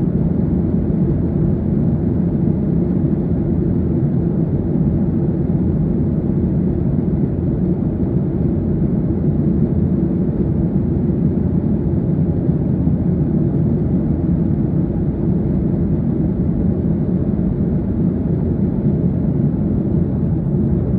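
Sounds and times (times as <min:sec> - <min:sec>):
jet engines droning: 0:00.0 - 0:20.9.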